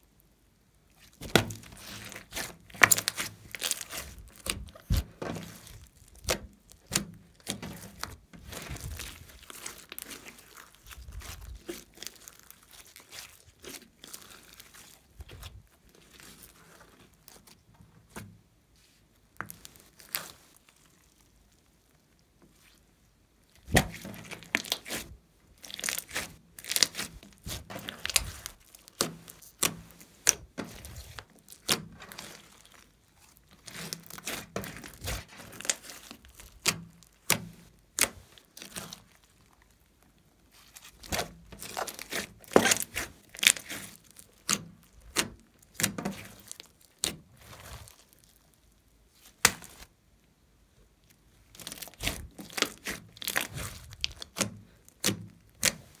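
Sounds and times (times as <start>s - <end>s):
slime crackling and popping: 0.9s - 17.7s, 19.3s - 22.8s, 23.4s - 50.0s, 51.0s - 56.0s.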